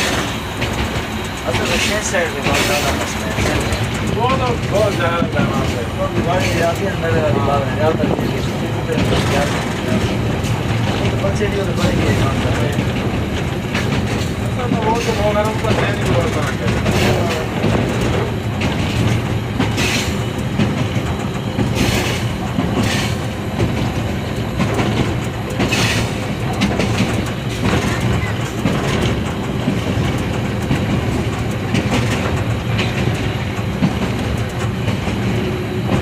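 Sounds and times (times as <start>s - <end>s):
clickety-clack from rails: 0.0s - 36.0s
locomotive engine drone: 0.0s - 36.0s
wheel rumble: 0.0s - 36.0s.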